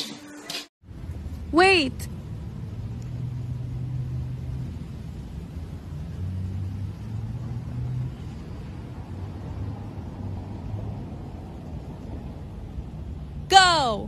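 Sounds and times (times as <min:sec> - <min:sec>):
low background rumble: 0:00.8 - 0:14.0.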